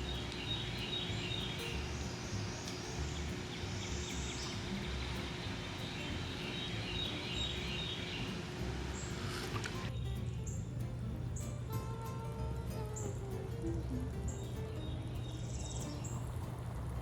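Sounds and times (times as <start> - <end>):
birds chirping: 0.0 - 17.0
insects chirring: 0.0 - 17.0.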